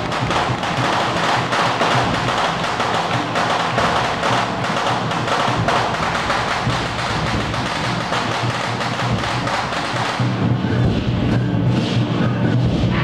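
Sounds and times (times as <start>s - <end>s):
drums and percussion playing: 0.0s - 13.0s.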